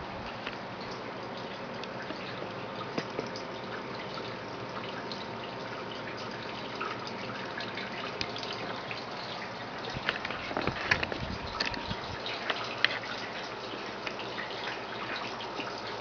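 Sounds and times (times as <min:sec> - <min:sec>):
faint steady hum: 0:00.0 - 0:16.0
water drips: 0:00.0 - 0:16.0
water splashing and trickling: 0:00.0 - 0:16.0.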